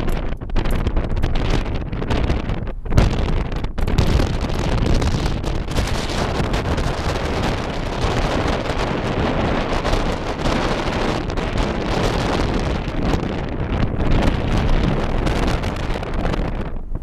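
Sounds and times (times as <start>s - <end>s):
road noise on dirt track: 0.0s - 17.0s
wind buffeting microphone: 0.0s - 17.0s.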